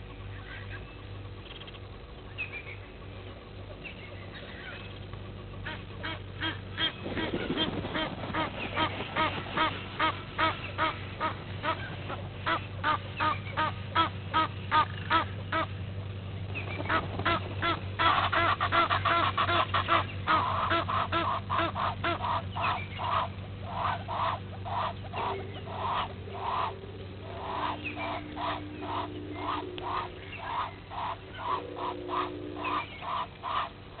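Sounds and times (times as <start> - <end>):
geese honking: 0.1 - 34.0.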